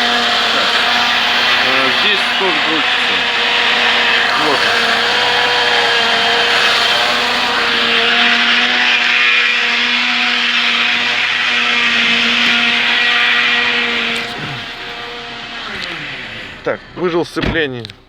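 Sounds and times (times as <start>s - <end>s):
car engine running: 0.0s - 18.0s
gearbox whine: 0.0s - 18.0s.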